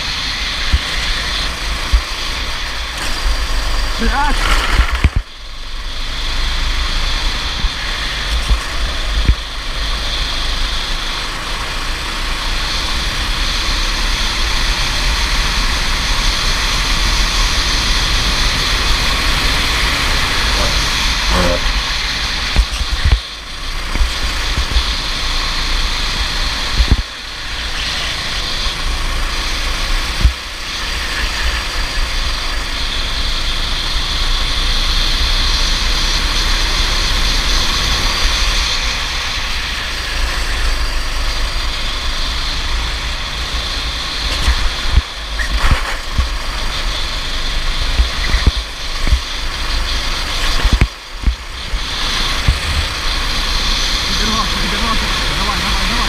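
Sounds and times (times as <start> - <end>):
go-kart engine running hard: 0.0 - 56.0
wind rush on microphone: 0.0 - 56.0.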